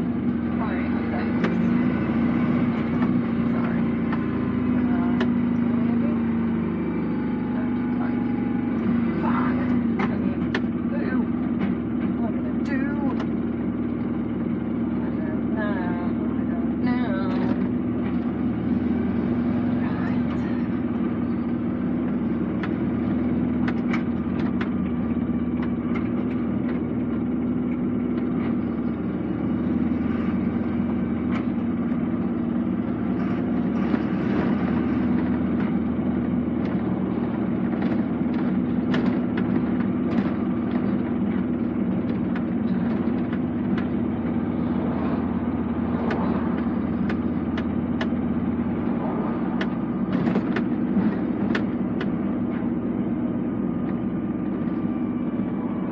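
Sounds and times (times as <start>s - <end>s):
diesel engine drone: 0.0s - 55.9s.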